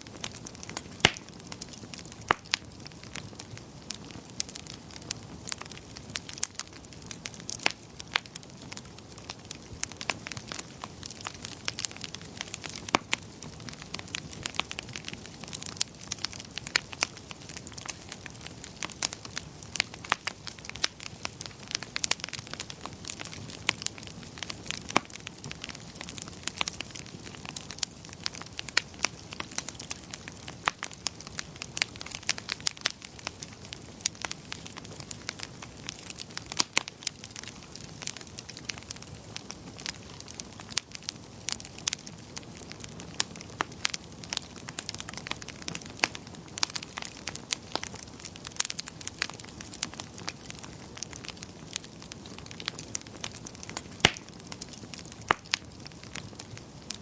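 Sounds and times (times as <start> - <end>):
fire crackling and popping: 0.0 - 57.0
soft hiss of flames: 0.0 - 57.0.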